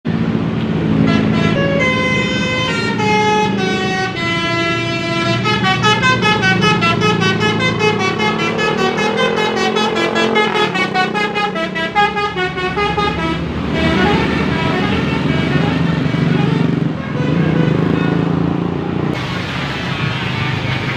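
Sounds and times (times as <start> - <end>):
bus engine running: 0.0 - 20.9
musical air horn melody: 1.0 - 18.3.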